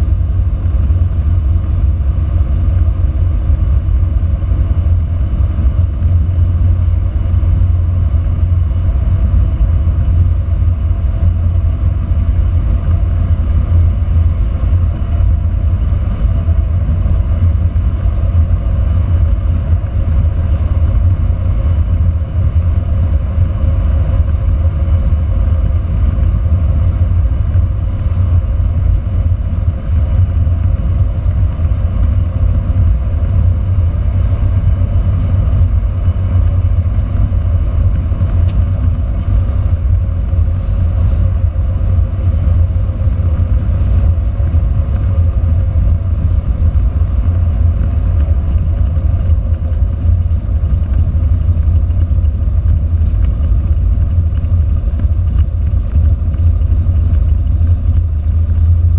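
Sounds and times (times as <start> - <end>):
propeller plane engine drone: 0.0 - 58.9.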